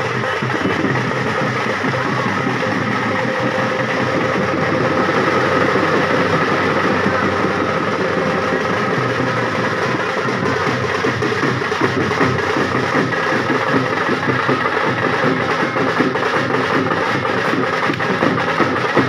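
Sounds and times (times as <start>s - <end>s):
bass drum beating: 0.0s - 19.0s
tasha drum fast roll: 0.0s - 19.0s.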